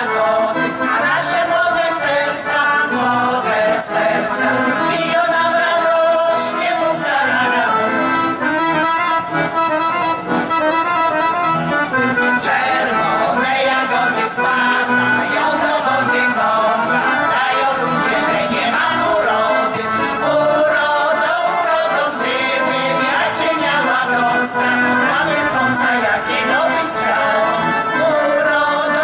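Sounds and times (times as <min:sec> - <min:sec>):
women singing in folk style: 0:00.0 - 0:08.4, 0:12.2 - 0:29.0
accordion playing lively melody: 0:00.0 - 0:29.0.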